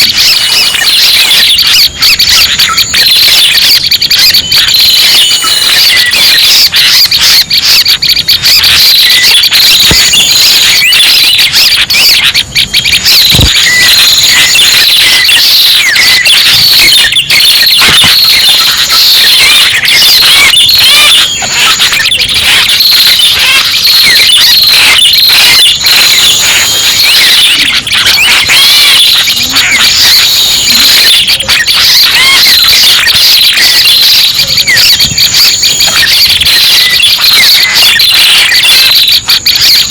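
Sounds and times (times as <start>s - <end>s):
rapid bird chirps and trills: 0.0s - 39.9s.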